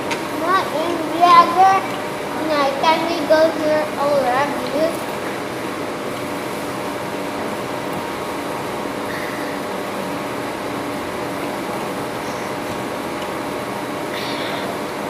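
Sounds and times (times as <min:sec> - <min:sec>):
air conditioners running: 0:00.0 - 0:15.0.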